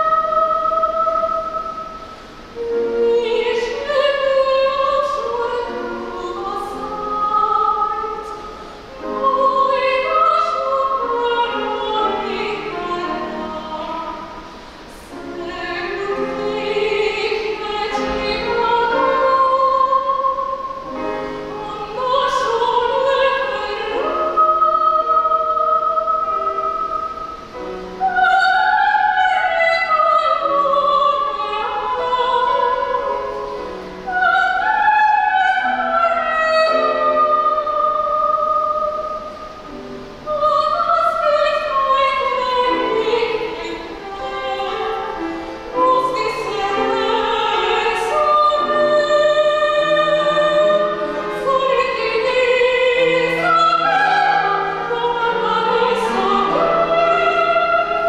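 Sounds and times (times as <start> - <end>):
grand piano accompaniment: 0.0 - 58.0
soprano singing operatic: 0.0 - 58.0.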